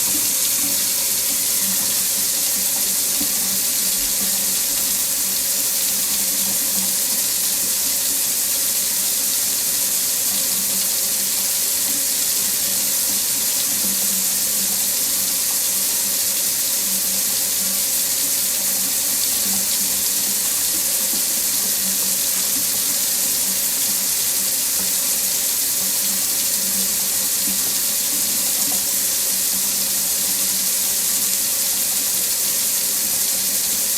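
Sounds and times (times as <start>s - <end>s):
faucet water running into sink: 0.0s - 33.9s.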